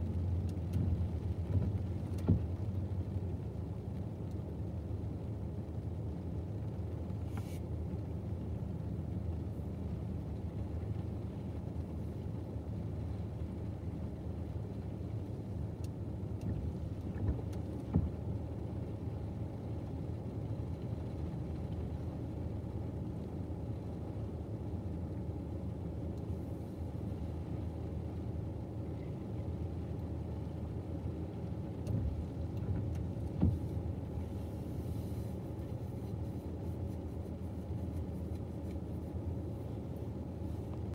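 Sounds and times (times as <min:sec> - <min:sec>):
faint light ticks: 0:00.0 - 0:40.9.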